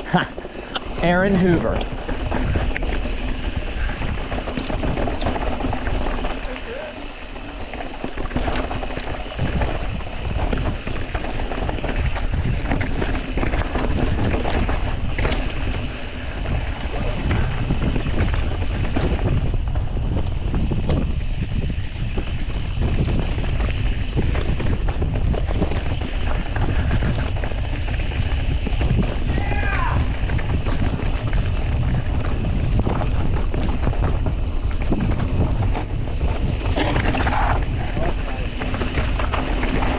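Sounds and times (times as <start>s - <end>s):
tyres on rough dirt trail: 0.0s - 39.9s
wind buffeting microphone: 0.0s - 39.9s.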